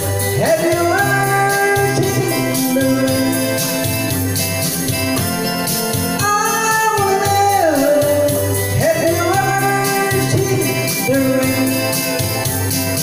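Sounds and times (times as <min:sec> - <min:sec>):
man singing into a microphone: 0:00.0 - 0:04.2, 0:05.5 - 0:12.5
rock backing track with guitar and drums: 0:00.0 - 0:13.0.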